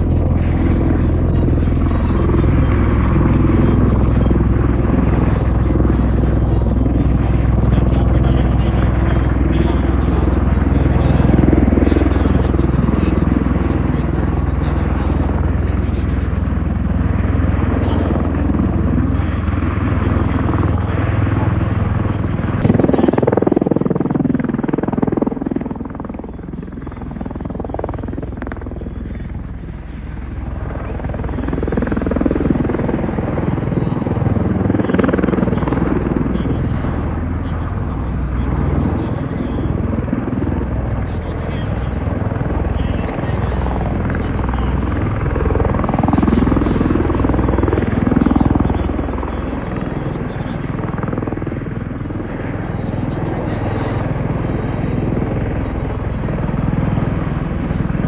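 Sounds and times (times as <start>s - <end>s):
aircraft engine noise: 0.0s - 58.0s.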